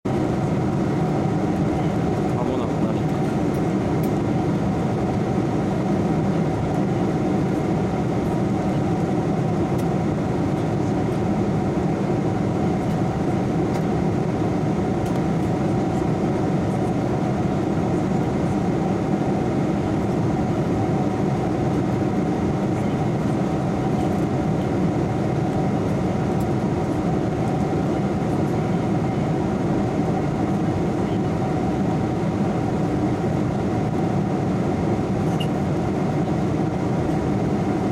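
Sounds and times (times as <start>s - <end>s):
airliner cabin engine hum: 0.1s - 37.9s.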